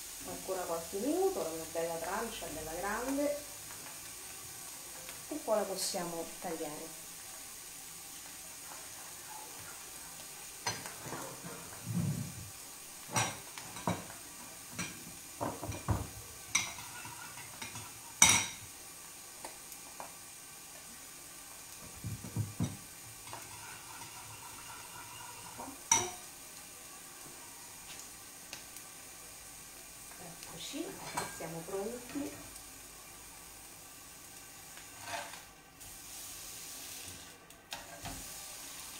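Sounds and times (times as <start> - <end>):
faint sizzle of fish searing: 0.0 - 38.9.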